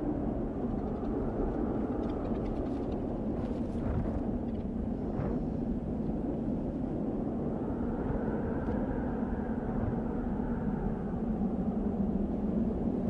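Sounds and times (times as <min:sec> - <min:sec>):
wind blowing with low rumble: 0:00.0 - 0:13.0.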